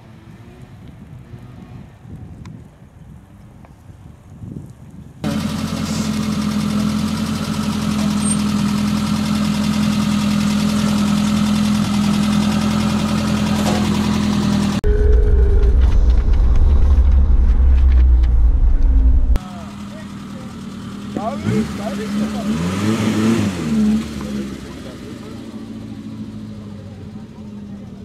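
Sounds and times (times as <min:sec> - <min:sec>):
vehicle driving rumble: 0:00.0 - 0:28.0
engine idling hum: 0:05.2 - 0:28.0.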